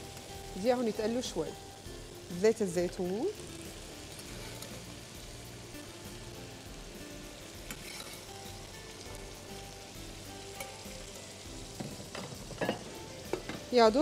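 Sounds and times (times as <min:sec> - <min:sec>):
potatoes sizzling in a pan: 0:00.0 - 0:14.0.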